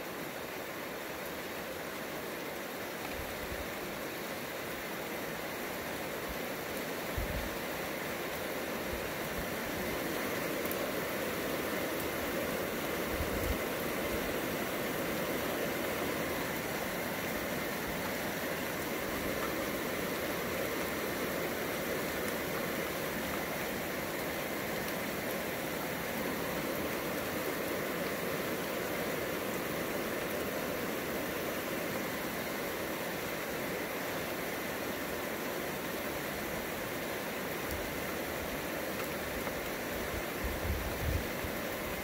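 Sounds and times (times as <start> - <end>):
heavy rain hissing: 0.0 - 42.0.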